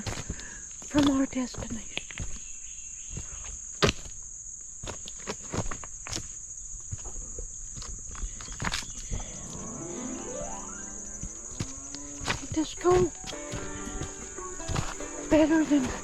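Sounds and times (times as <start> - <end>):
insect drone: 0.0 - 16.0
footsteps snapping twigs: 0.1 - 9.2, 11.5 - 16.0.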